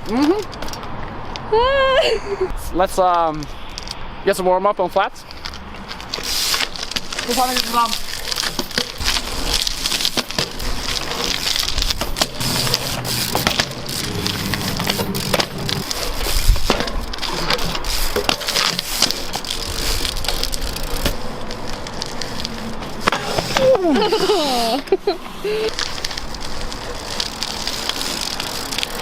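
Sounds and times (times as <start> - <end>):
bike clicks and knocks: 0.0 - 1.5, 5.3 - 29.0
bike tyres crunching on rough ground: 3.0 - 29.0.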